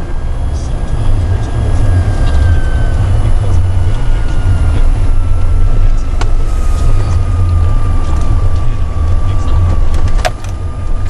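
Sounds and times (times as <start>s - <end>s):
car engine and road noise: 0.0s - 11.0s
faint whine falling in pitch: 0.0s - 11.0s.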